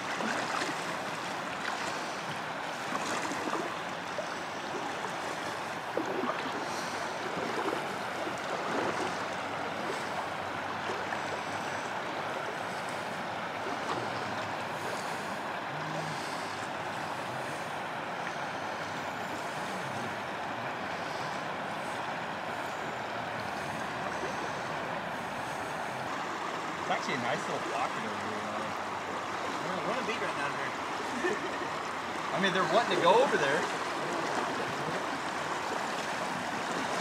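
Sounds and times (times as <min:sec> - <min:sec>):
river current rushing: 0:00.0 - 0:37.0.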